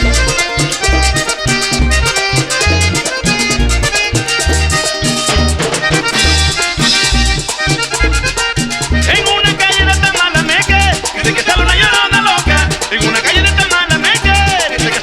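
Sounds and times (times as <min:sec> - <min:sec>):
accordion melody: 0:00.0 - 0:15.0
drums and percussion rhythm: 0:00.0 - 0:15.0
electric bass notes: 0:00.0 - 0:15.0.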